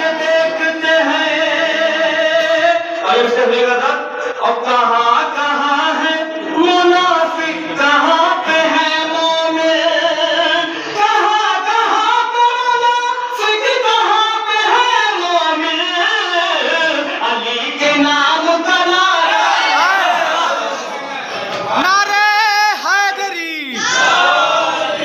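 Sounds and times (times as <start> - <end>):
man chanting through a microphone: 0.0 - 24.0.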